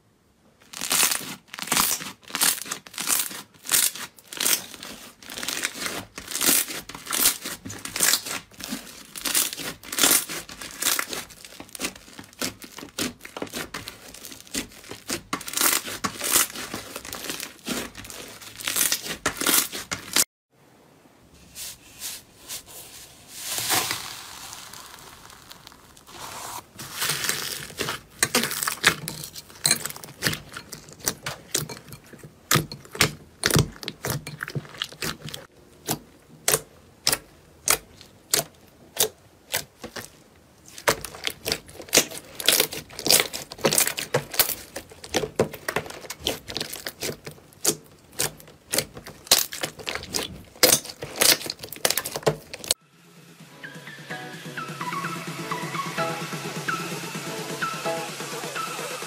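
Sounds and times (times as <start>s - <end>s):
slime squelching: 0.6s - 20.2s, 21.5s - 52.8s
foam-bead slime crackling: 0.6s - 20.3s, 21.4s - 52.8s.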